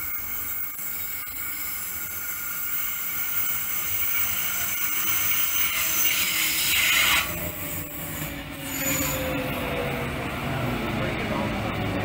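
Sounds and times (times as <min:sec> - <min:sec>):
electric train approaching: 0:00.0 - 0:12.0.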